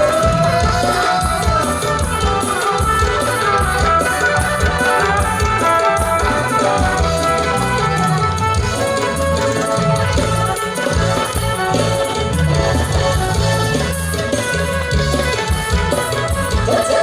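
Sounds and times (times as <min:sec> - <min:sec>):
brass instruments: 0:00.0 - 0:17.0
steady drum beat: 0:00.0 - 0:17.0.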